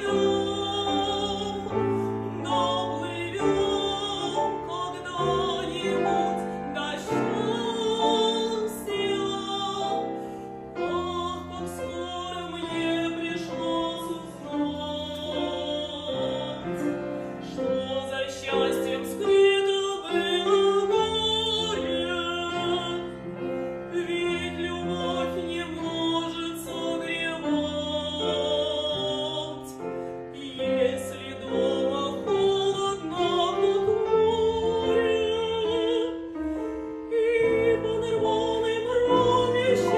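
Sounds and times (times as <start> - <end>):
woman singing operatically: 0.0 - 10.1, 10.8 - 23.1, 23.9 - 29.8, 30.4 - 36.3, 37.1 - 39.9
piano accompaniment: 0.0 - 39.9.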